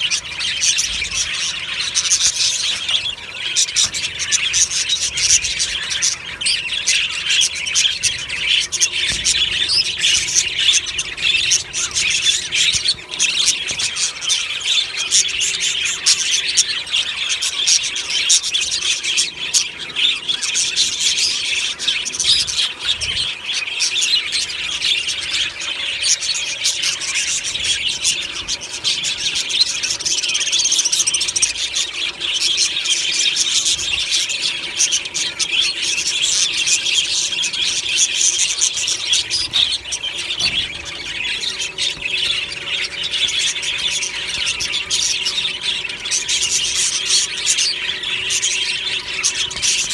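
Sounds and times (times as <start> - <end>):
budgerigars chirping and warbling: 0.0 - 49.9.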